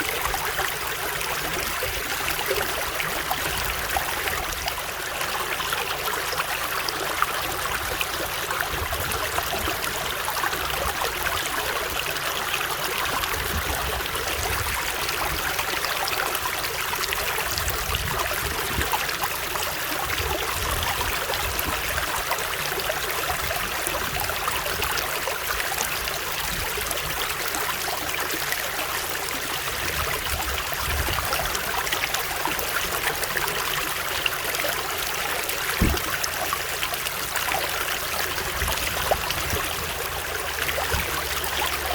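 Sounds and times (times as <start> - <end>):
stream flowing: 0.0 - 41.9.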